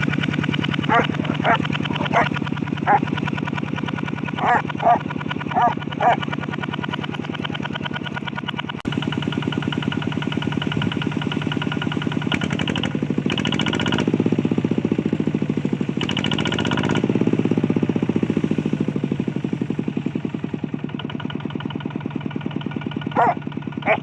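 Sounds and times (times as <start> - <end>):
tractor engine chugging: 0.0 - 24.0.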